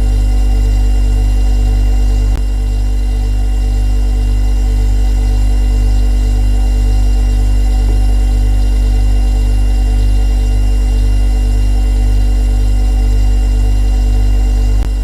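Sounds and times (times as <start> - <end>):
refrigerator compressor humming: 0.0 - 15.0.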